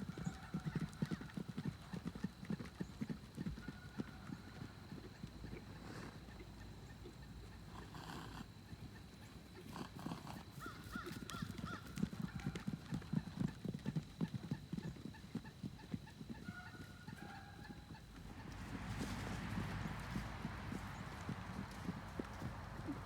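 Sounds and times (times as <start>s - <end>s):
horse hoofbeats: 0.0s - 23.0s.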